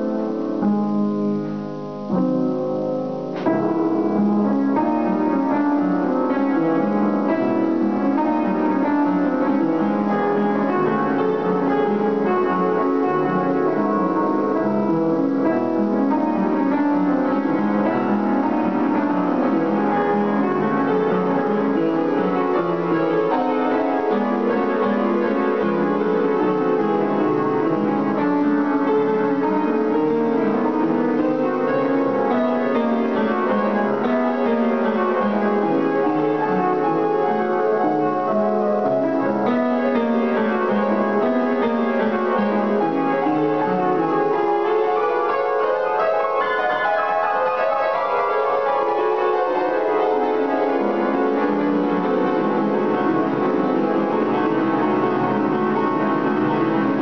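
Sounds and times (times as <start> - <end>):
classical piano passage: 0.0 - 57.0.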